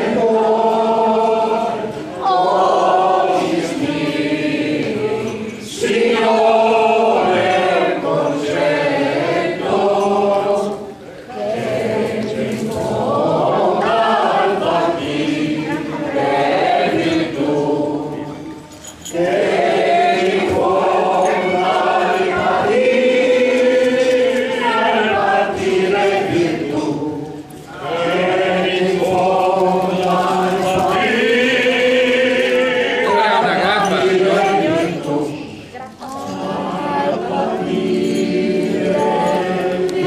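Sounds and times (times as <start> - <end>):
group singing: 0.0 - 40.0.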